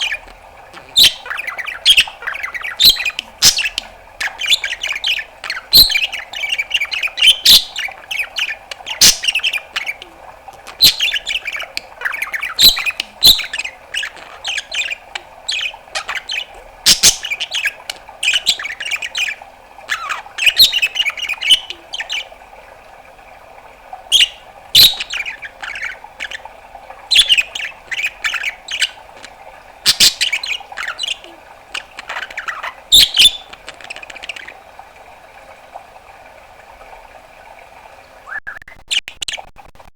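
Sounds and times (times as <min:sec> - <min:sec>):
budgerigar chattering: 0:00.0 - 0:22.3, 0:24.1 - 0:26.4, 0:27.1 - 0:34.6.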